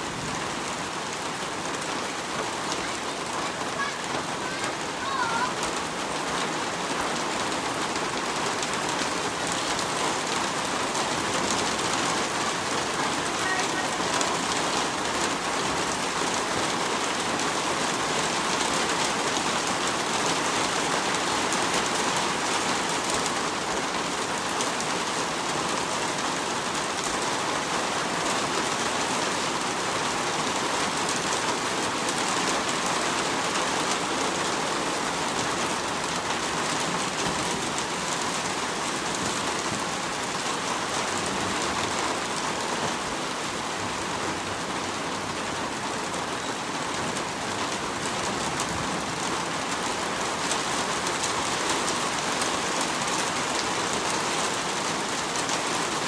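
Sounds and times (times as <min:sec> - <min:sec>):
heavy rain patter: 0:00.0 - 0:56.0.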